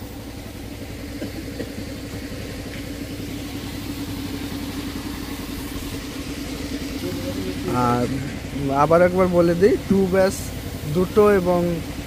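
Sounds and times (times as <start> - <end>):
motor running with low throb: 0.0 - 12.0.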